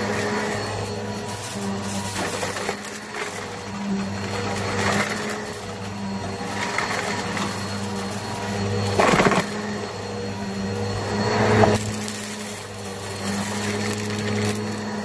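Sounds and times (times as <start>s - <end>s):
vacuum cleaner motor humming: 0.0s - 15.0s.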